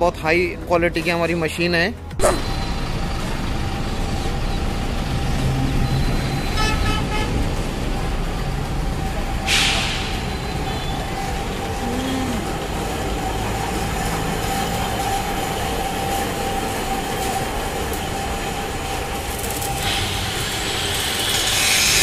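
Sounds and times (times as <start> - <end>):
workshop machinery hum and whine: 2.1 - 6.6, 7.4 - 22.0.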